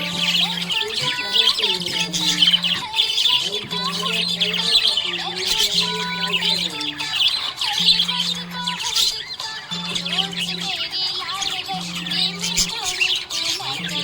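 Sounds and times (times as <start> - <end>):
song playing: 0.0 - 12.8
budgerigars chirping and warbling: 0.0 - 14.0.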